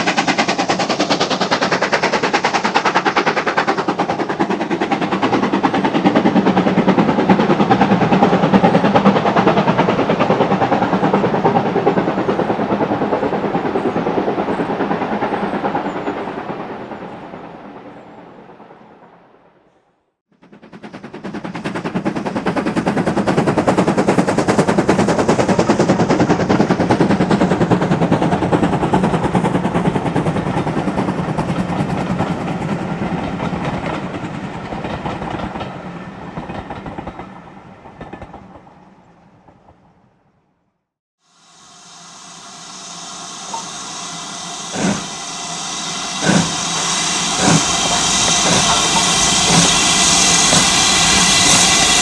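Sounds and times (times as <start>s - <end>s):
steam locomotive exhaust beats: 0.0s - 18.7s, 20.4s - 38.9s, 41.2s - 52.0s
passing train: 0.0s - 52.0s.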